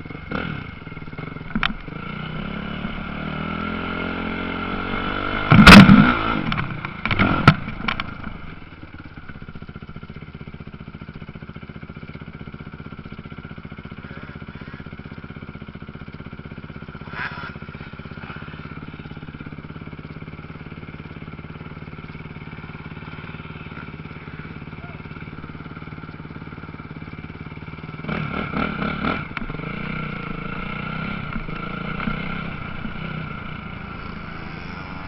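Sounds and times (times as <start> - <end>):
motocross motorcycle engines: 0.0 - 35.0.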